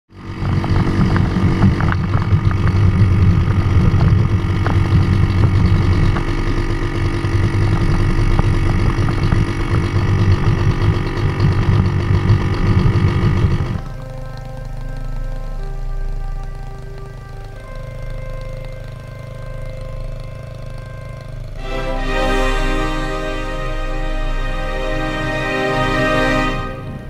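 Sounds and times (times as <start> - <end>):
quad bike engine running: 0.1 - 27.0.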